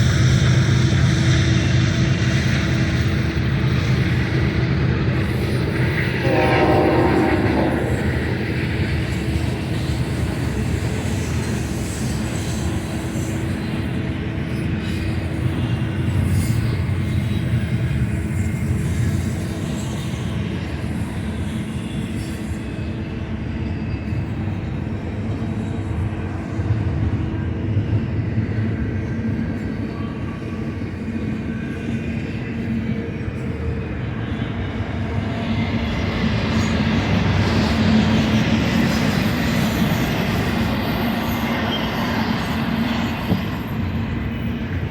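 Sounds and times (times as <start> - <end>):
freight train rumbling past: 0.0 - 44.9.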